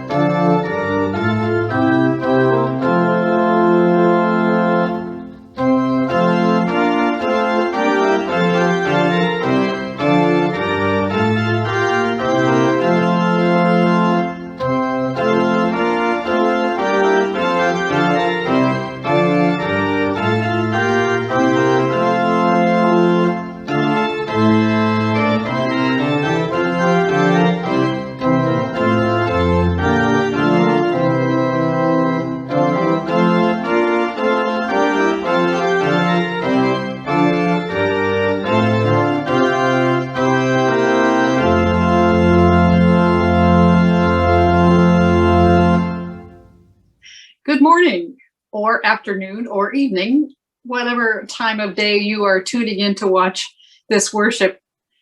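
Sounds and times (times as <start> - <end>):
organ playing slow chords: 0.0 - 47.0.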